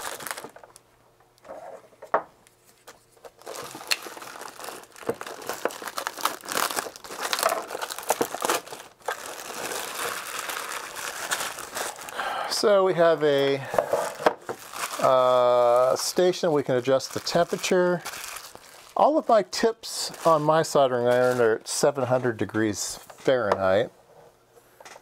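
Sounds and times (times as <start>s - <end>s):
plastic wrapping crinkling: 0.0s - 0.8s, 2.7s - 22.6s.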